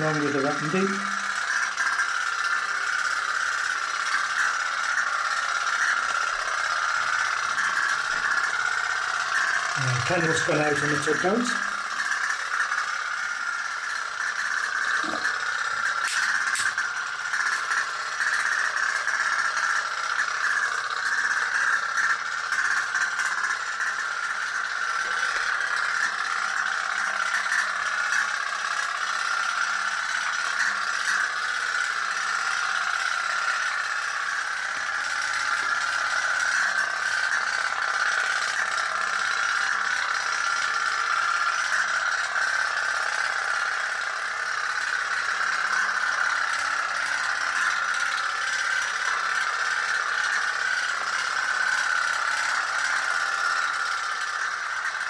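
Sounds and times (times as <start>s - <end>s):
toy steam boat rattling: 0.0s - 55.0s.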